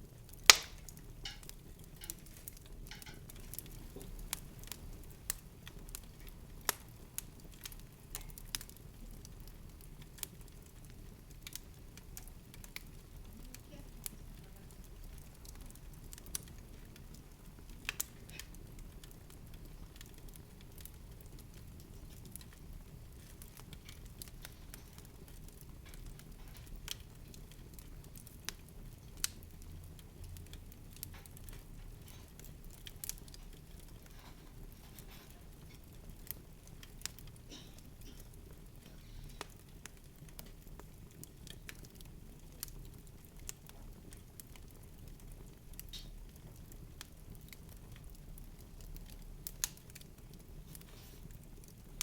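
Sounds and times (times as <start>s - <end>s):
sharp crackles: 0.0s - 52.0s.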